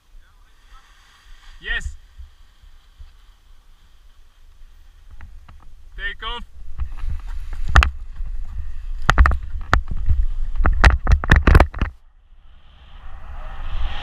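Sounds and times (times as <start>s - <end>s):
rushing wind hiss: 0.0s - 11.7s, 12.3s - 14.0s
wind rumbling on microphone: 1.0s - 14.0s.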